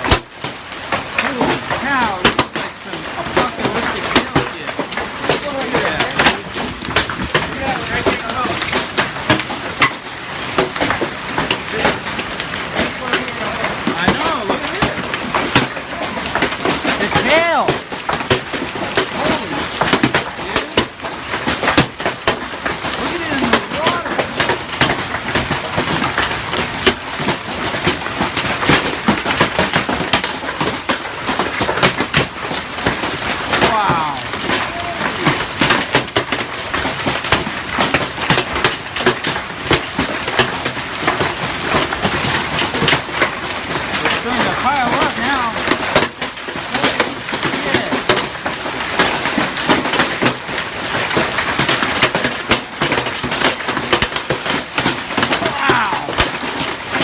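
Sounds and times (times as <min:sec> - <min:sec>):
hail clattering: 0:00.0 - 0:57.0.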